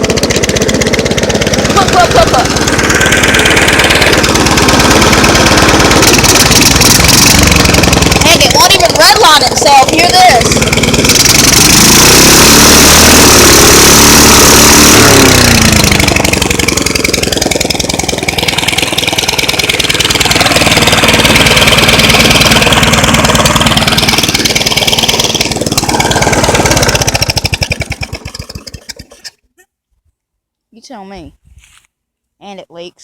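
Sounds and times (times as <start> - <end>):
small engine running rough: 0.0 - 29.6.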